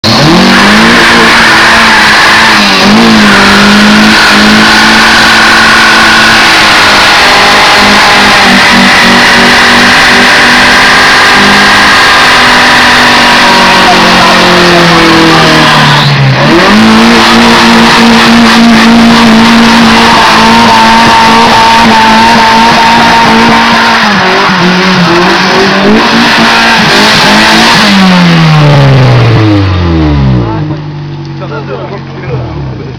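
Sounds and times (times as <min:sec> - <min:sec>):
car engine revving high: 0:00.0 - 0:32.9.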